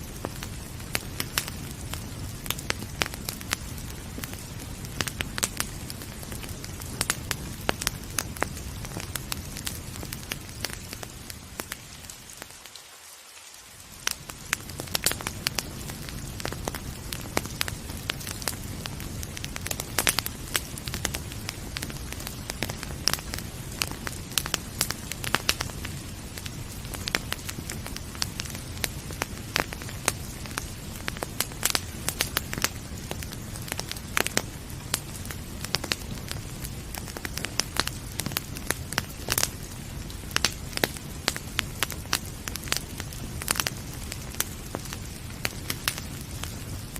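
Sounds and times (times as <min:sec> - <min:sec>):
wood fire crackling and popping: 0:00.0 - 0:12.9, 0:13.8 - 0:46.9
rain hissing: 0:00.0 - 0:46.9.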